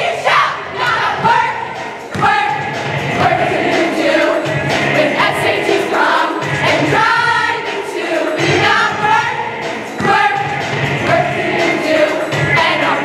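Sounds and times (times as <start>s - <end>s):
group singing: 0.0s - 13.0s
loud pop music mash-up: 0.0s - 13.0s.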